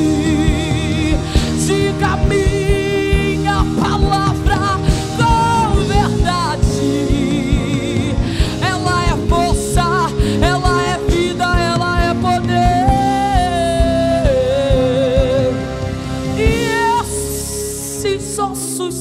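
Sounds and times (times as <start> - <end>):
steady drum beat: 0.0 - 15.6
live band playing: 0.0 - 19.0
woman singing into a microphone: 0.0 - 19.0.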